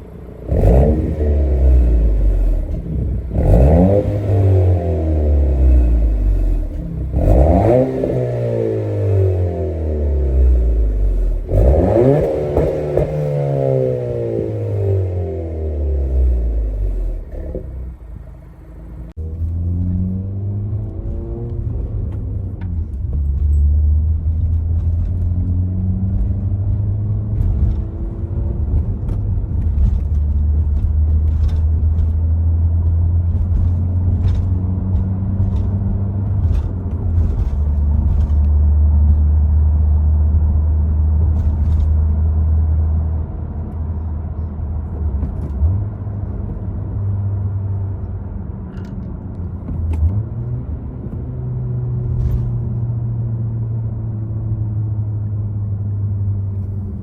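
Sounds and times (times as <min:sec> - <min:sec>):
car exhaust drone: 0:00.0 - 0:57.0.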